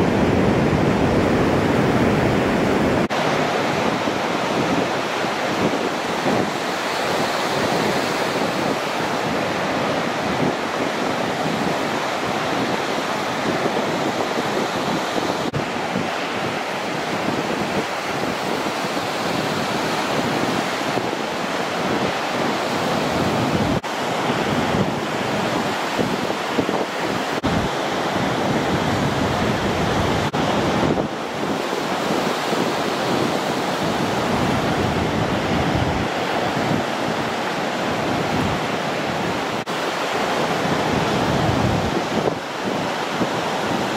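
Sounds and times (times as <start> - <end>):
ocean waves breaking: 0.0 - 43.9
wind buffeting microphone: 0.0 - 43.9.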